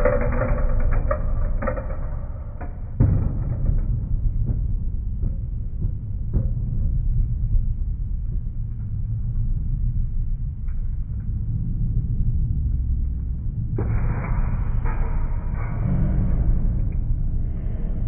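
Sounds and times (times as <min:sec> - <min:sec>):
low rumbling drone music: 0:00.0 - 0:18.0.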